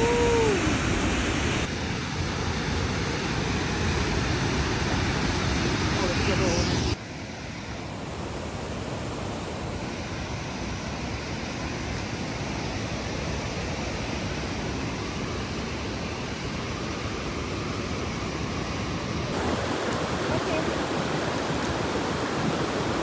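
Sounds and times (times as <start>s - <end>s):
water rushing over waterfall: 0.0s - 7.0s, 7.7s - 23.0s.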